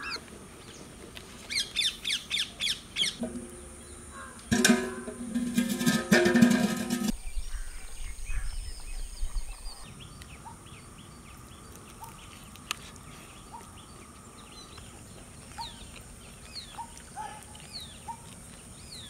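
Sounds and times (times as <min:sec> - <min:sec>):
birds chirping: 0:01.5 - 0:19.0.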